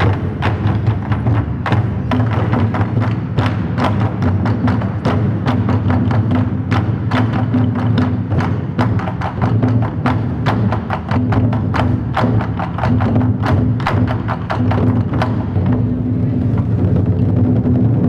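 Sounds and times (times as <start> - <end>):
barrel drums beaten with sticks: 0.0 - 18.0.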